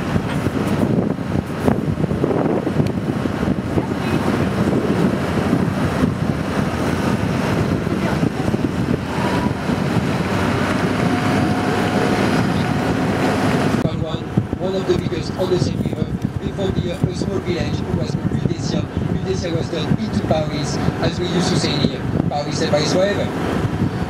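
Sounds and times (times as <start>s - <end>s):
boat engine and water noise: 0.0s - 24.0s
wind on microphone: 0.0s - 24.0s.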